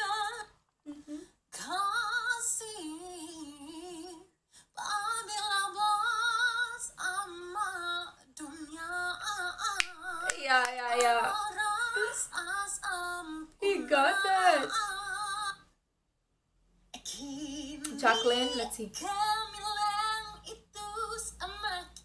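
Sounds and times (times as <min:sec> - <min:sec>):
boy singing in high voice: 0:00.0 - 0:15.6, 0:17.0 - 0:22.0.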